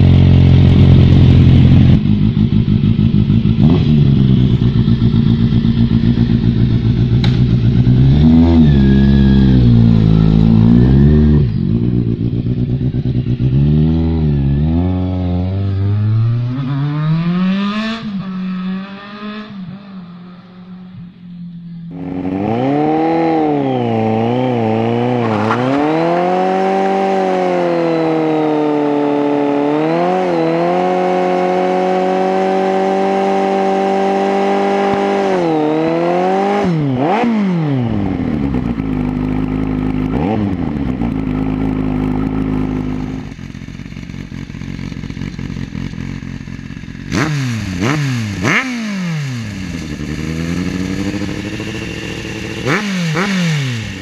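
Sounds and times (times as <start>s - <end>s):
motorcycle throttle blips: 0.0s - 27.8s, 37.9s - 54.0s
motorcycle engine at high revs: 0.0s - 54.0s.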